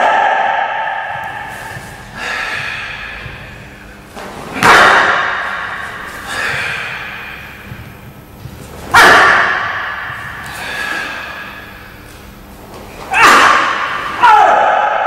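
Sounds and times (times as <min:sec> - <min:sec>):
sharp impacts echoing in a hall: 0:00.0 - 0:15.0.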